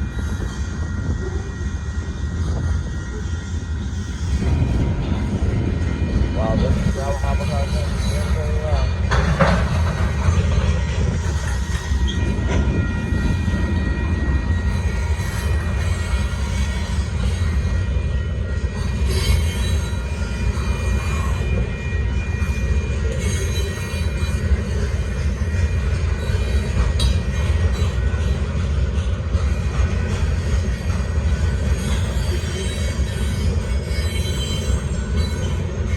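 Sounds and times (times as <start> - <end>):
train wheels squealing: 0.0 - 35.9.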